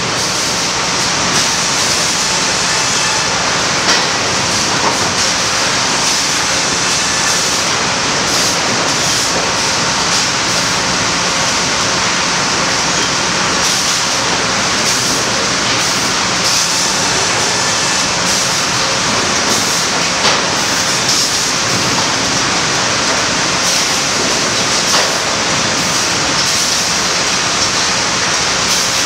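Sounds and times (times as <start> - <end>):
sawmill conveyor machinery din: 0.0 - 29.0.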